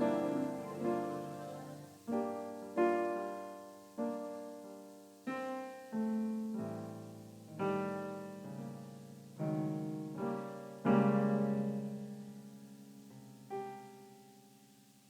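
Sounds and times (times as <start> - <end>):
electronic keyboard piano chords: 0.0 - 12.5.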